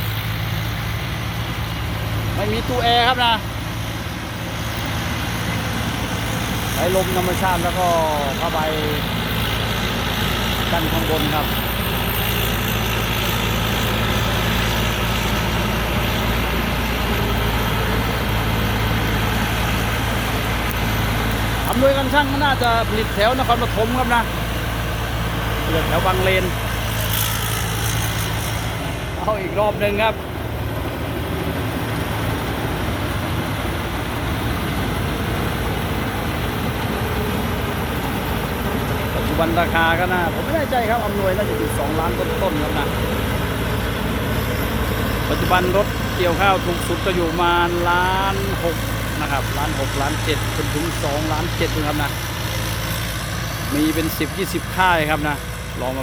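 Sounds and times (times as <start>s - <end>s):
diesel engine droning: 0.0s - 56.0s
harvester machinery noise: 0.0s - 56.0s.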